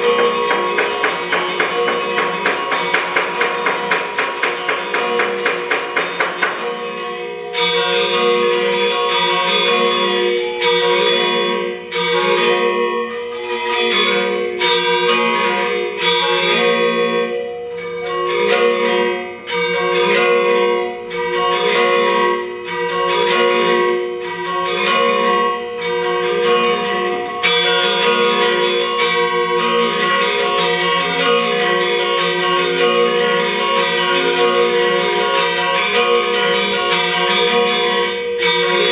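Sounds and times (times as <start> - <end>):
gamelan metallophones: 0.0 - 38.9.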